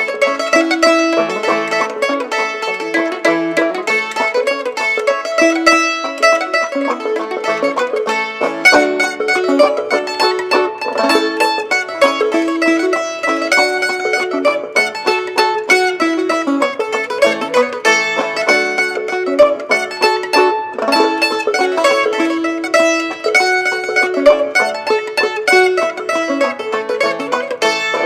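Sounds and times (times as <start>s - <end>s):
clawhammer banjo: 0.0s - 28.0s
mandolin: 0.0s - 28.0s.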